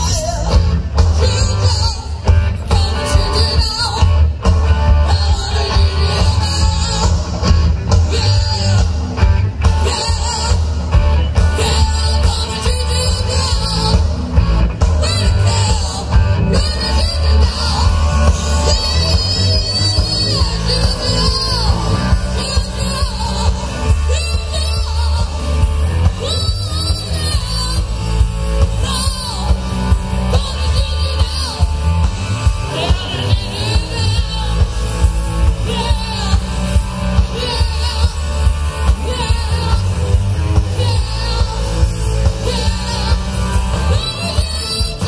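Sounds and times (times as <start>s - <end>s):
drums keeping a steady beat: 0.0s - 45.0s
electric guitar: 0.0s - 45.0s
heavy bass: 0.0s - 45.0s
person singing: 0.0s - 45.0s.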